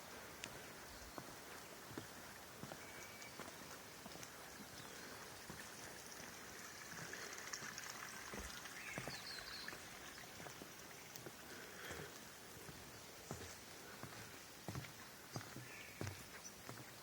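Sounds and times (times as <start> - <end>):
faint stream water: 0.0 - 17.0
footsteps on forest path: 0.0 - 17.0.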